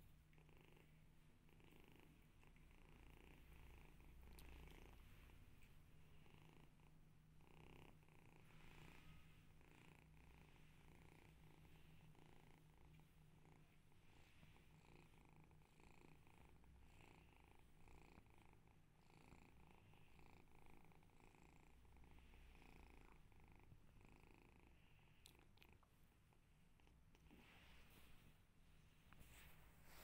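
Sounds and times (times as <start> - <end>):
kitten purring: 0.0 - 30.0.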